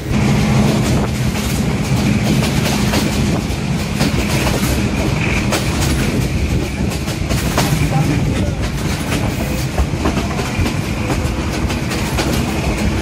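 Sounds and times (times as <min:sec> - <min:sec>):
diesel locomotive droning: 0:00.0 - 0:13.0
train carriages clattering over rails: 0:00.0 - 0:13.0.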